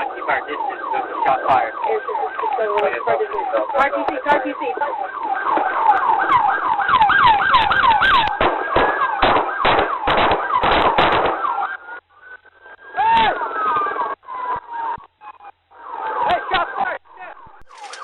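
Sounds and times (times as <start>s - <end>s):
police siren yelping: 0.0s - 18.0s
siren whoop: 0.0s - 18.0s.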